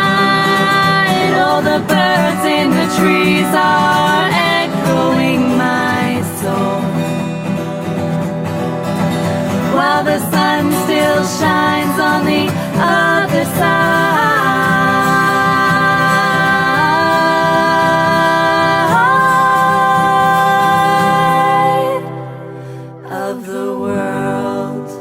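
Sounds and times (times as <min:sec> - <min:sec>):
person singing long held notes: 0:00.0 - 0:07.5, 0:09.5 - 0:25.0
music accompaniment: 0:00.0 - 0:23.0.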